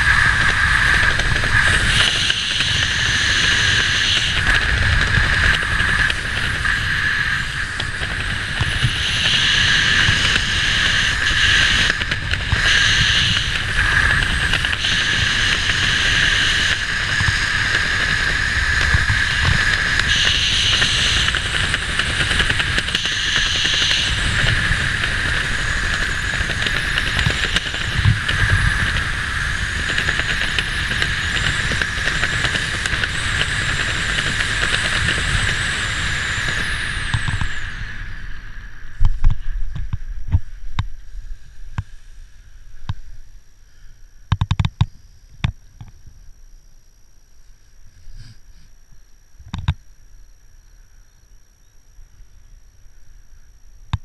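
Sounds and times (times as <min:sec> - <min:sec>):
wind rushing over microphone: 0:00.0 - 0:43.4.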